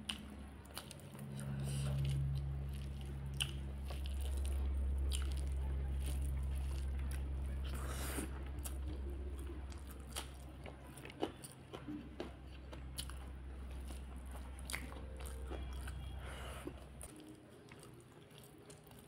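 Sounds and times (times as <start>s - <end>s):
fingers squishing sticky rice: 0.0s - 19.0s
steady low hum: 0.0s - 19.0s
wet chewing: 0.0s - 19.0s.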